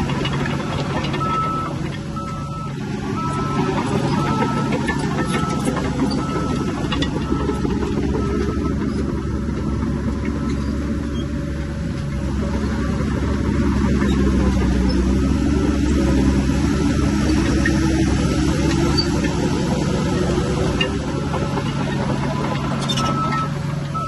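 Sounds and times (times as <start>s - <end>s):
heavy machine diesel engine: 0.0s - 24.0s.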